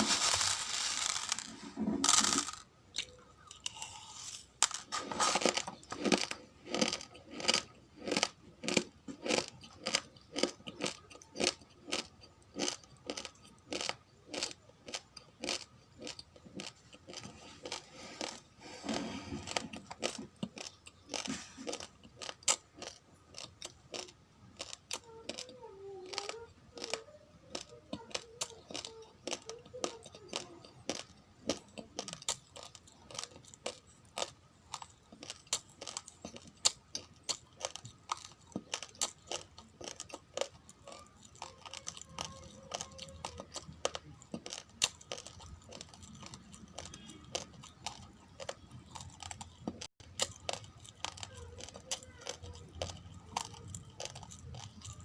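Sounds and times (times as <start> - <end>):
chewing raw rice crunches: 0.0 - 55.0.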